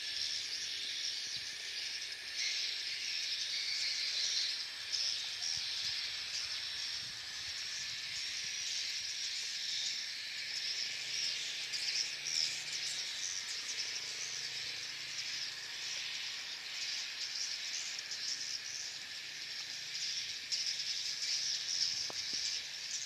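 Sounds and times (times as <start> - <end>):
swiftlets twittering and chirping: 0.0 - 23.0.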